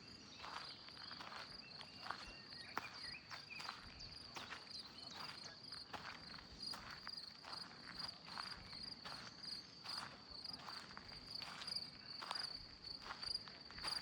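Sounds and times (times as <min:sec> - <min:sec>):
footsteps on a path: 0:00.0 - 0:14.0.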